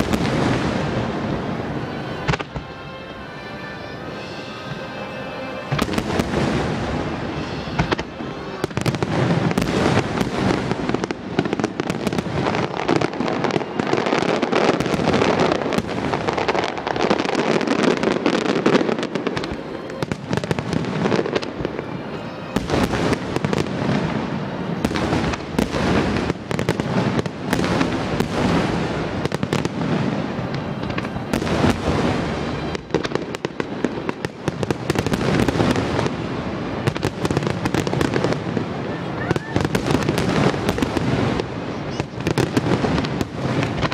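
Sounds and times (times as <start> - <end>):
fireworks booming and crackling: 0.0 - 43.9.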